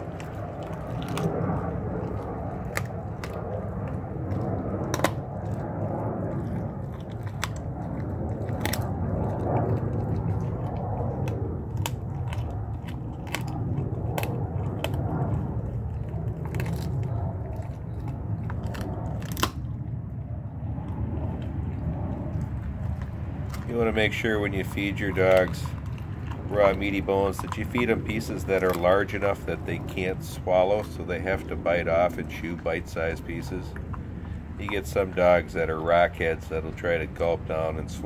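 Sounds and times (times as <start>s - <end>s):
bone cracking: 0.0s - 20.0s, 20.7s - 35.2s
dog gnawing wetly: 0.0s - 38.0s.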